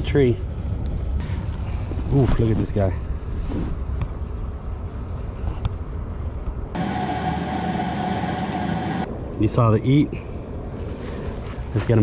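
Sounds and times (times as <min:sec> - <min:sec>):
droning hum: 0:00.0 - 0:12.0.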